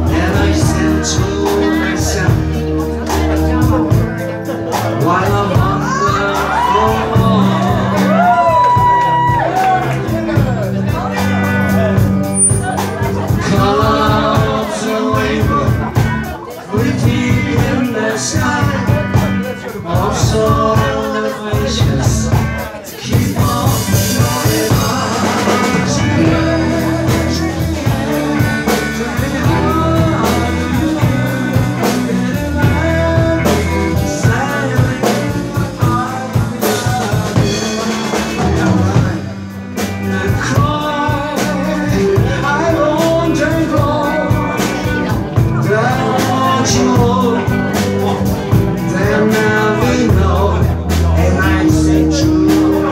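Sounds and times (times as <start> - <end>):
drum kit: 0.0 - 52.9
electric bass: 0.0 - 52.9
electric guitar: 0.0 - 52.9
man singing: 0.0 - 52.9.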